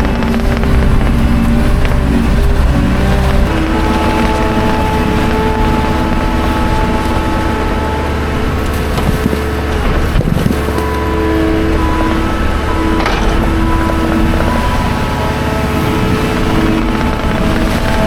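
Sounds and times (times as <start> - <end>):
skid steer engine rumbling: 0.0 - 18.0
whining tones: 0.0 - 18.0.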